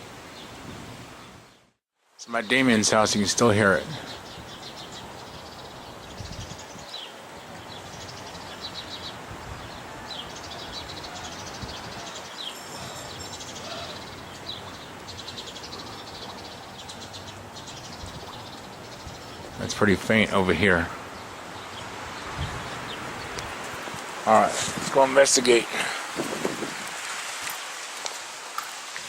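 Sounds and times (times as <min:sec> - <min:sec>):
outdoor background hiss: 0:00.0 - 0:29.0
small birds chirping and trilling: 0:01.2 - 0:26.2.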